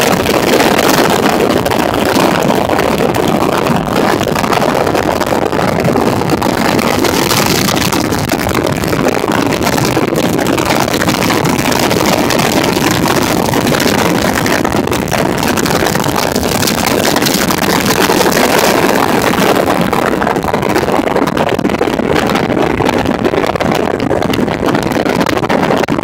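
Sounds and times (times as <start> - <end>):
outboard engine running: 0.0 - 26.0.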